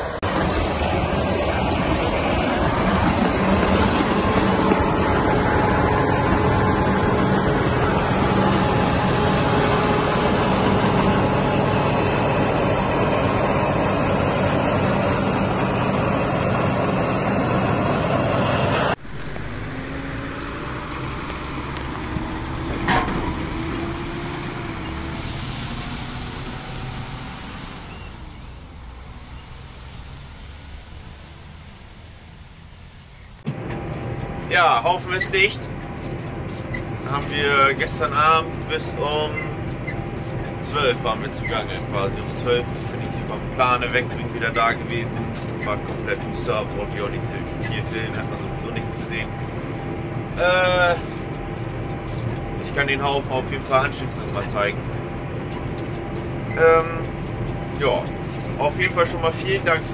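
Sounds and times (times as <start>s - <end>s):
tractor and wagon passing on road: 0.0s - 59.9s
tractor engine running: 0.0s - 59.9s.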